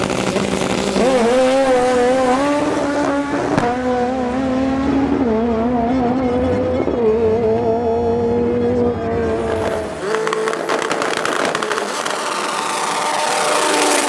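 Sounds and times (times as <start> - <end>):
rapid engine crackling: 0.0 - 3.7, 6.0 - 14.0
racing engine accelerating: 0.0 - 14.0.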